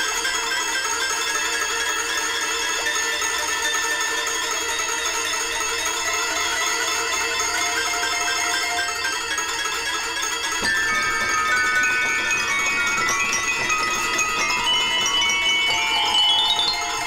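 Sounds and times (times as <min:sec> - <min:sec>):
toy piano playing: 0:02.6 - 0:17.0.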